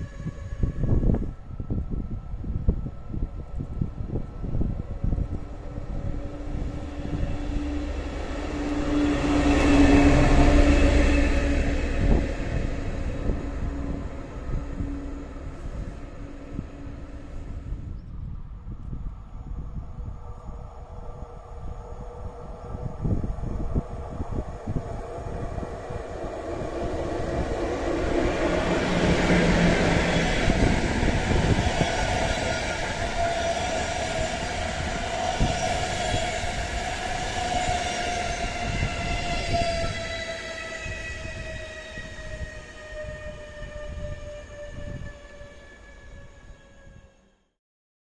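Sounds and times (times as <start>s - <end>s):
train rumbling on track: 0.0s - 47.2s
locomotive whine: 0.0s - 47.5s.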